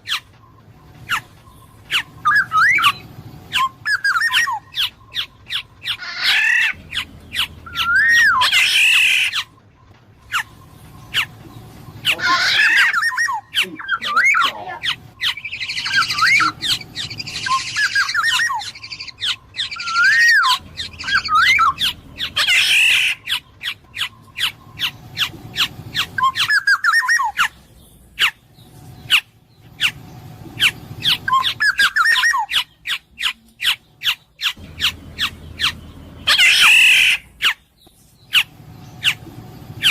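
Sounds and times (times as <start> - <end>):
bird harsh squawking: 0.0 - 0.3, 1.0 - 9.6, 10.2 - 39.9
bird fluty whistled calls: 0.0 - 28.4, 29.0 - 39.9.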